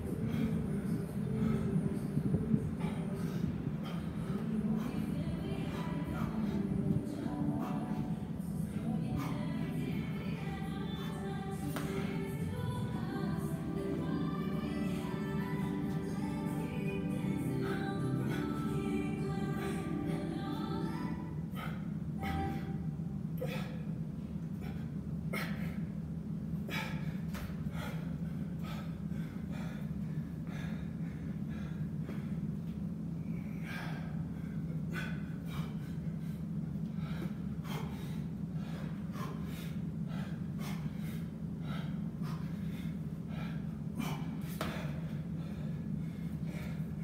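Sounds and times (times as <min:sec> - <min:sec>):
man breathing hard: 0:00.0 - 0:47.0
steady low hum: 0:00.0 - 0:47.0.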